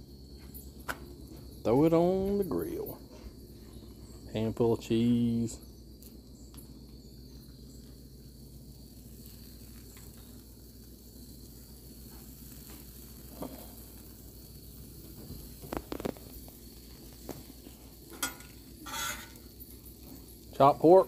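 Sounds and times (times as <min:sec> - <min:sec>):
gas griddle burners hissing: 0:00.0 - 0:21.0.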